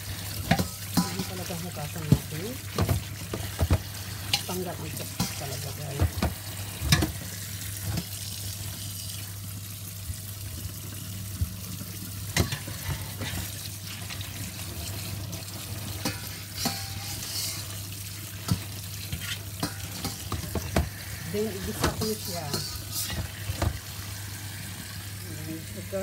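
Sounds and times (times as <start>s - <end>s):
tap water splashing: 0.2s - 9.2s, 10.0s - 16.9s, 18.2s - 24.1s.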